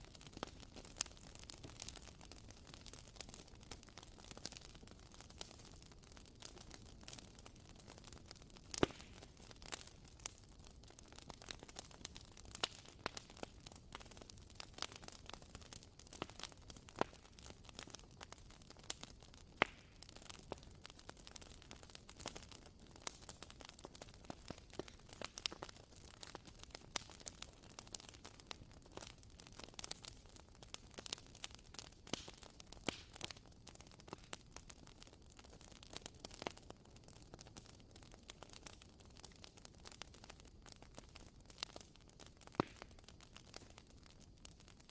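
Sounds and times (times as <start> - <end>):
candle crackling: 0.0 - 44.9.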